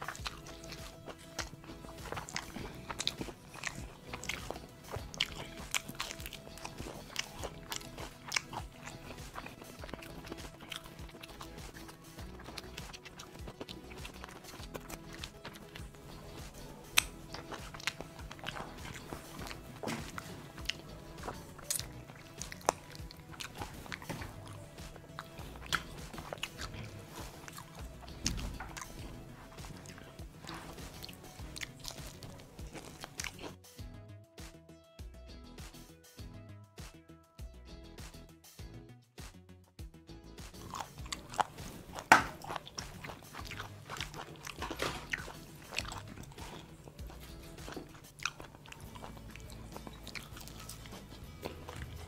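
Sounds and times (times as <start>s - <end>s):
crunching fried chicken: 0.0s - 33.6s, 40.4s - 52.0s
wet chewing: 0.0s - 33.6s, 40.4s - 52.0s.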